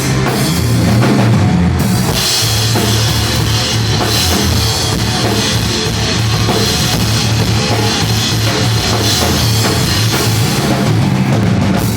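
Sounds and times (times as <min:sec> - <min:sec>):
bass line: 0:00.0 - 0:11.9
drum kit cymbals and bass drum: 0:00.0 - 0:11.9
rock band playing: 0:00.0 - 0:11.9.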